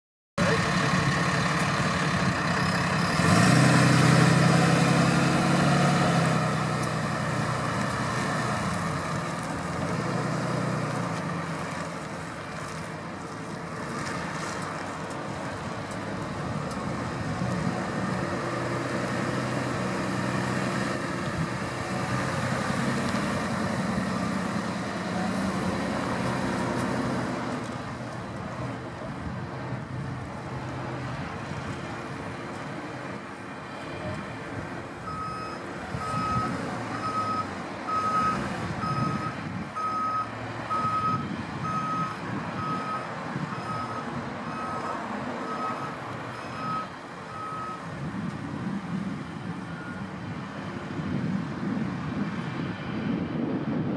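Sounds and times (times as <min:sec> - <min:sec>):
diesel truck engine running: 0:00.4 - 0:53.9.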